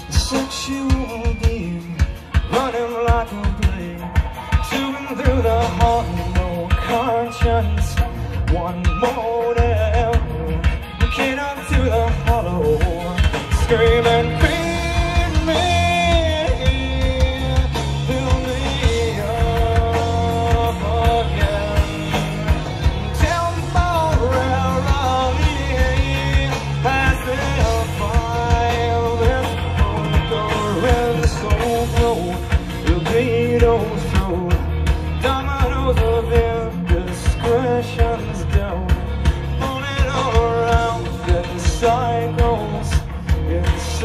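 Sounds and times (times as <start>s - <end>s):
rock song with singing: 0.0s - 44.0s.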